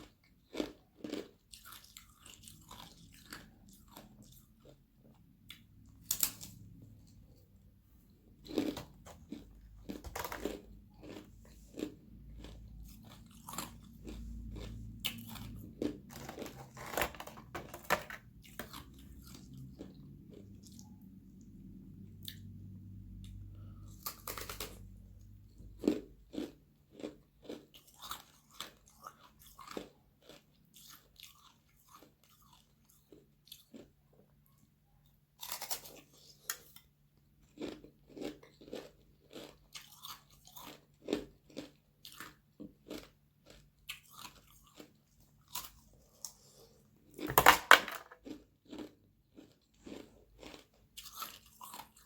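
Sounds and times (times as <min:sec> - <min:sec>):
crunchy chewing of ice: 0:00.0 - 0:07.4, 0:08.2 - 0:21.0, 0:23.2 - 0:47.3, 0:48.1 - 0:52.0.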